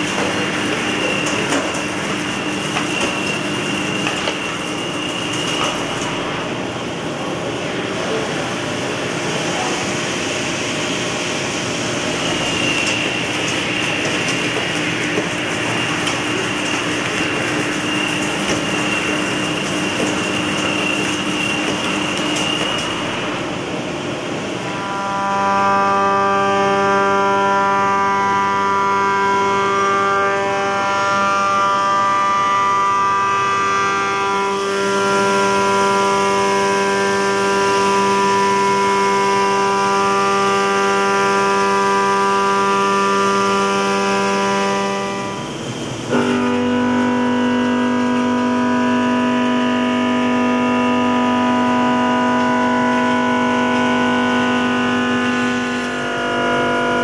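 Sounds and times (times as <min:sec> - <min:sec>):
milling machine whine: 0:00.0 - 0:57.0.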